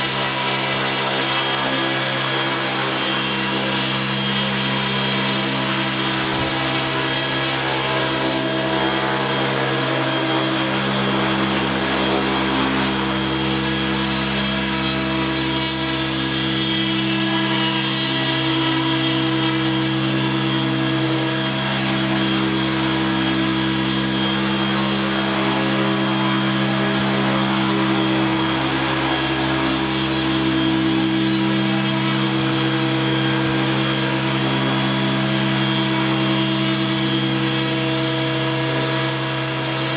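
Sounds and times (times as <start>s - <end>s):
model helicopter motor whine: 0.0s - 39.9s
rotor blades whirring: 0.0s - 39.9s.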